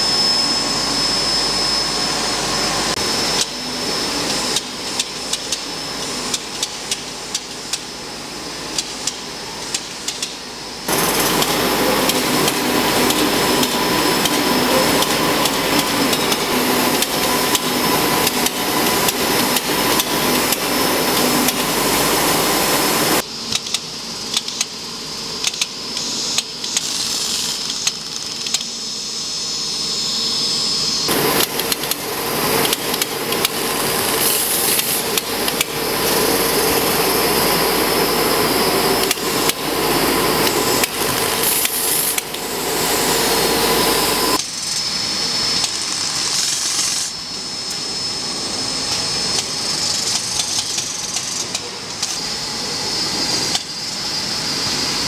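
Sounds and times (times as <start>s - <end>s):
steady machine noise: 0.0s - 55.0s.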